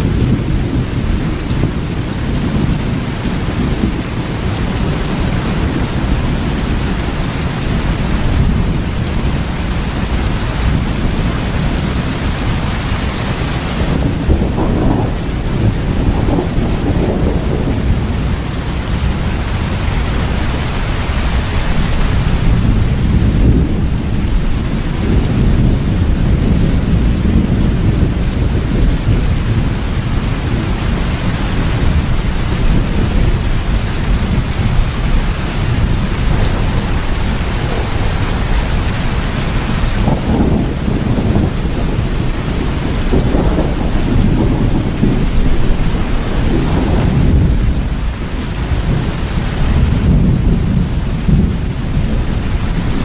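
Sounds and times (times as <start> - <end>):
heavy rain: 0.0 - 53.0
rolling thunder: 0.0 - 53.0.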